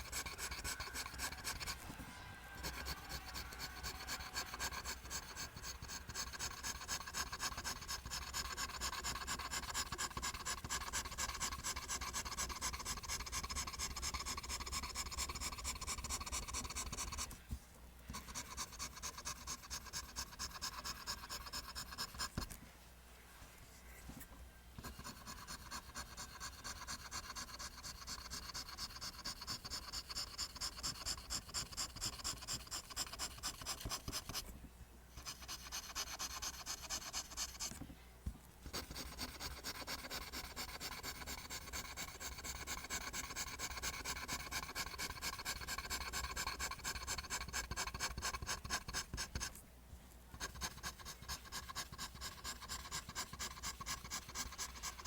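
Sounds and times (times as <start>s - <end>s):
pencil scratching on paper: 0.0s - 17.4s, 18.1s - 22.6s, 24.8s - 34.5s, 35.2s - 37.8s, 38.7s - 49.6s, 50.3s - 55.0s.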